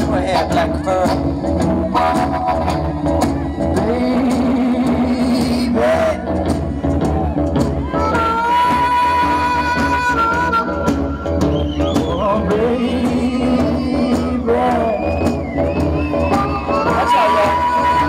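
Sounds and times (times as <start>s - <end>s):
band bass line: 0.0s - 18.0s.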